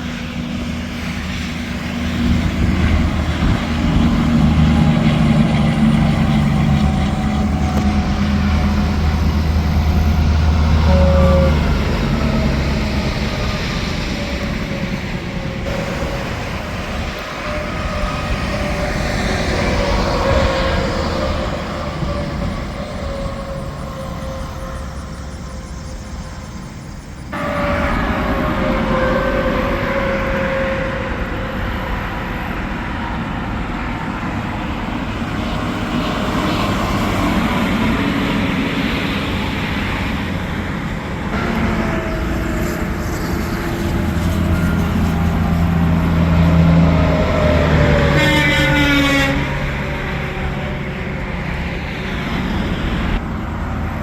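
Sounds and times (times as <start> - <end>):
highway traffic passing: 0.0 - 54.0
low engine drone: 0.0 - 54.0.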